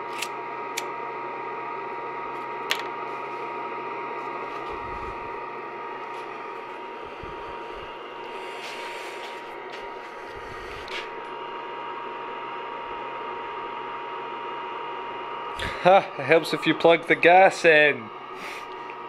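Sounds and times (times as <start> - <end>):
fan running with thin whine: 0.0 - 19.0.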